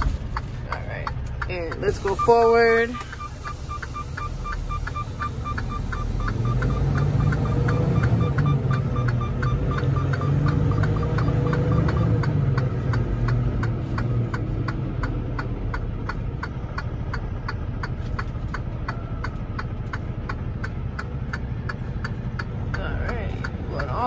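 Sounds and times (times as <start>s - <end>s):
diesel truck engine running: 0.0s - 24.0s
steady ticking: 0.0s - 24.0s.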